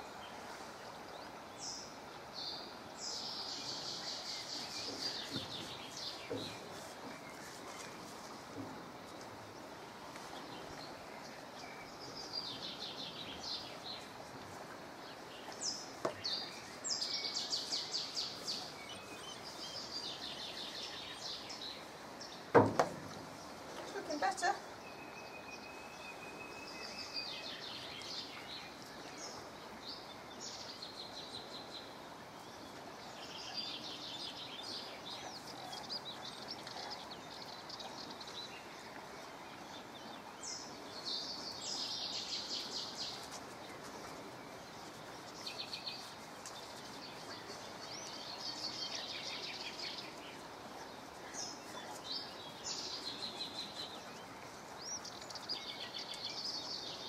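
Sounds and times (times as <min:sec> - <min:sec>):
songbirds chirping and trilling: 0:00.0 - 0:57.0
steady background hiss: 0:00.0 - 0:57.0.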